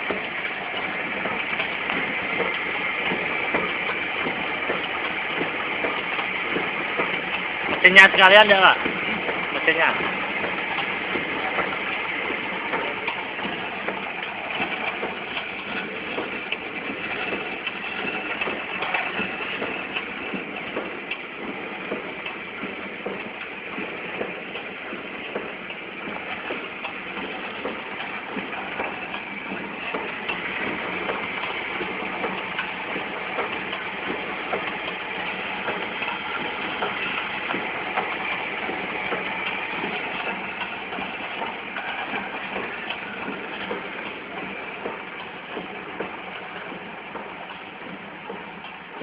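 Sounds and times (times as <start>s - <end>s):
machine whirring: 0.0s - 49.0s
mechanical clicks and ticks: 0.0s - 49.0s.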